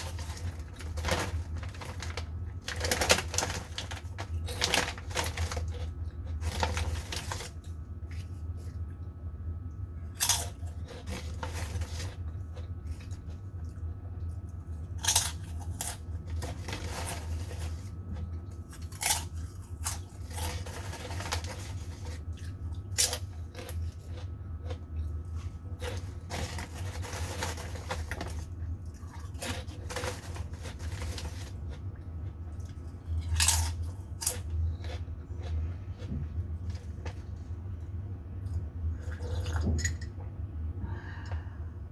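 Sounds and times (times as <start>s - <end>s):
crunching and chewing crisps: 0.0s - 9.2s, 10.0s - 37.4s
steady low hum: 0.0s - 41.9s.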